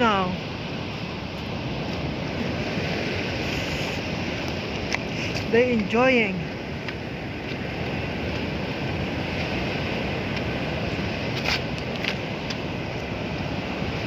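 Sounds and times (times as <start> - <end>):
ocean surf breaking on shore: 0.0 - 14.0.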